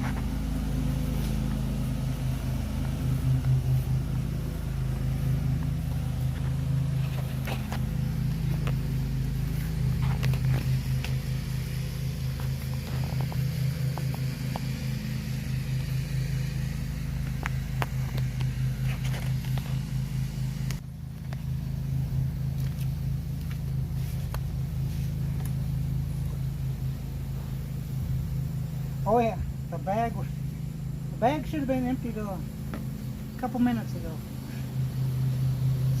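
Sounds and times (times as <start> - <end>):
electric lawn mower motor hum: 0.0 - 36.0.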